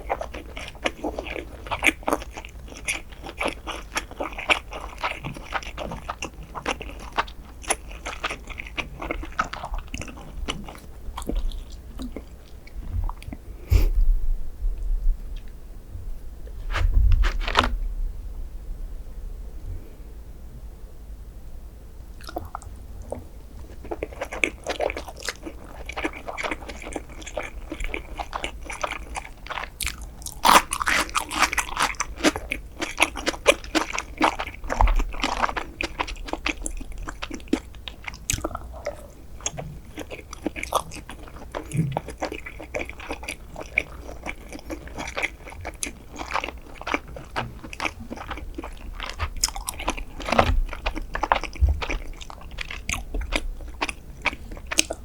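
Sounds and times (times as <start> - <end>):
close chewing and biting: 0.0 - 14.0, 16.6 - 17.7, 22.2 - 55.0.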